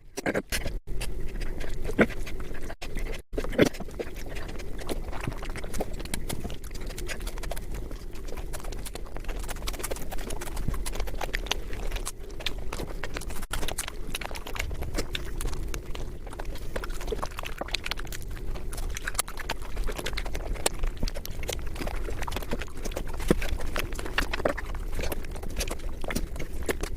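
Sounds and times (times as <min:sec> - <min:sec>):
wet mouth eating sounds: 0:00.0 - 0:26.9.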